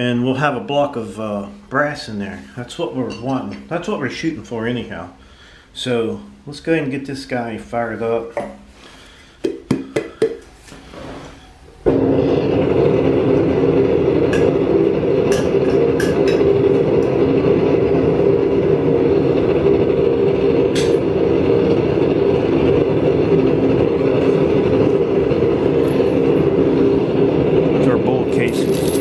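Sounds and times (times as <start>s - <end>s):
furnace burner and blower rushing: 0.0s - 29.0s.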